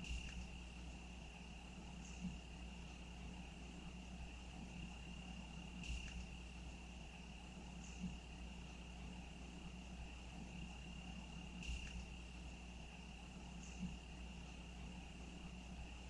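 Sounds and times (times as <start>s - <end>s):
insect trill: 0.0s - 16.0s
low hum: 0.0s - 16.0s.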